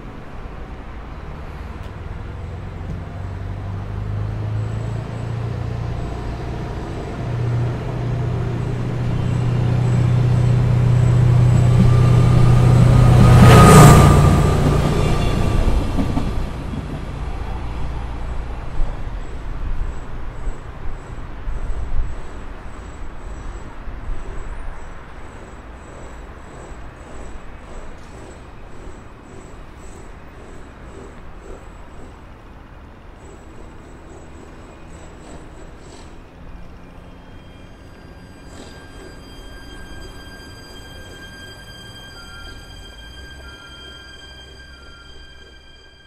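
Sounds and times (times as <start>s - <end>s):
street traffic noise: 0.0s - 46.0s.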